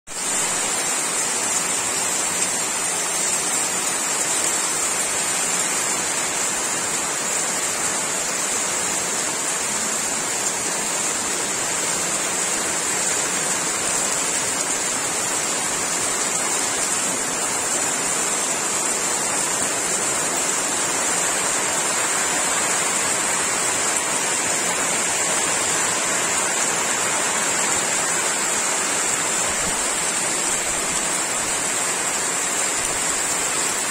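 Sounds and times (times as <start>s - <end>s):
heavy rain on leaves and grass: 0.1s - 33.9s.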